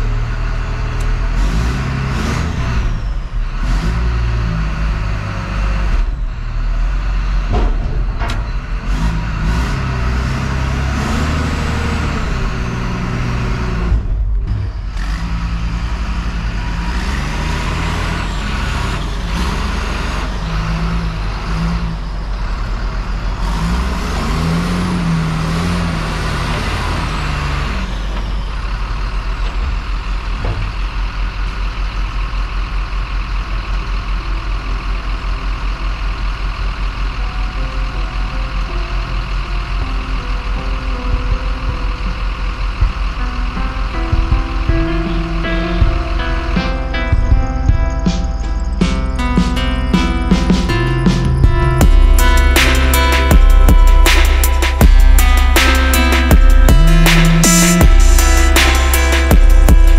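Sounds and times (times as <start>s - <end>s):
diesel engine working under load: 0.0s - 59.9s
hydraulics whining: 0.0s - 59.9s.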